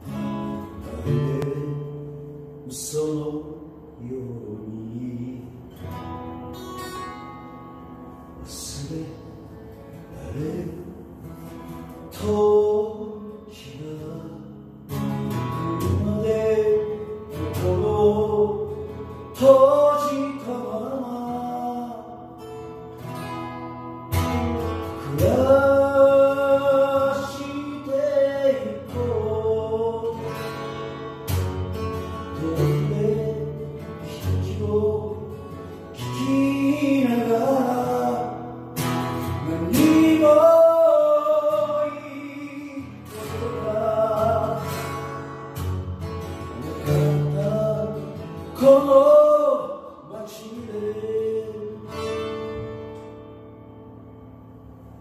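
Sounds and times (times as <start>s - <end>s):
acoustic guitar strumming: 0.0s - 55.0s
man singing: 0.7s - 6.0s, 8.4s - 23.0s, 24.5s - 31.3s, 32.2s - 52.3s.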